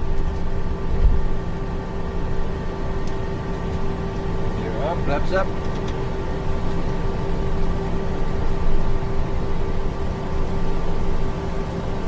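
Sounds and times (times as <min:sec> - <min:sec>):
airliner engines droning: 0:00.0 - 0:12.0
steady hum: 0:00.0 - 0:12.0.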